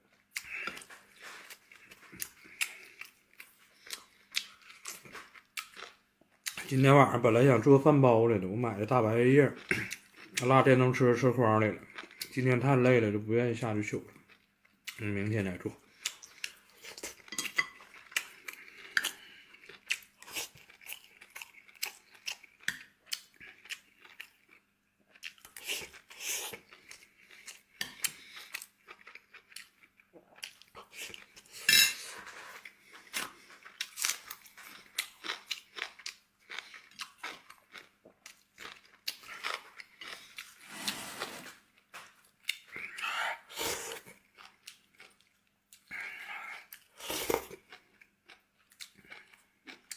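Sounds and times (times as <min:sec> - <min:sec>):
man chewing and crunching food: 0:00.0 - 0:06.8, 0:08.7 - 0:13.0, 0:14.0 - 0:49.9.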